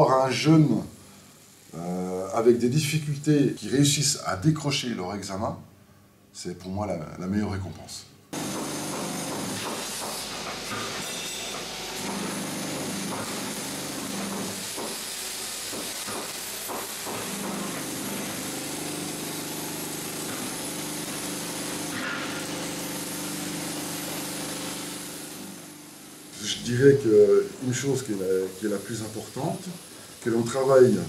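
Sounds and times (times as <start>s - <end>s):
welding arc crackling and hissing: 0.0s - 4.6s, 8.3s - 31.0s.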